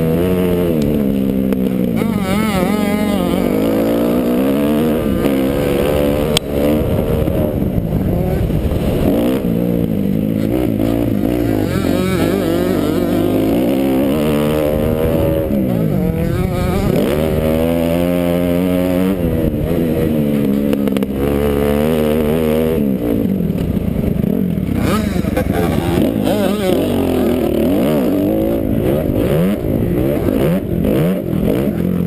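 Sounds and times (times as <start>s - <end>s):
motocross engine revving hard: 0.0s - 23.6s, 24.2s - 32.0s.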